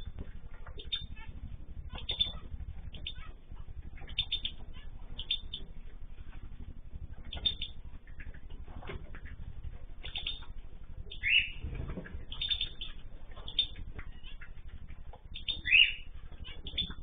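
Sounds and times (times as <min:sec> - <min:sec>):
cage birds chirping: 0:00.0 - 0:17.0
low rumble: 0:00.0 - 0:17.0.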